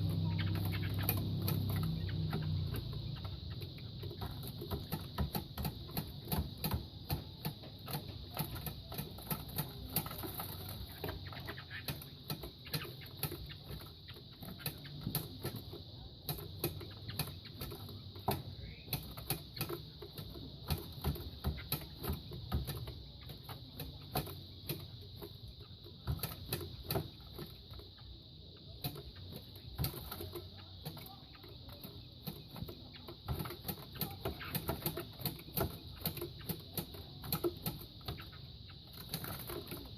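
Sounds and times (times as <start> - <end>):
roosters fighting thumps and clicks: 0.0 - 39.9.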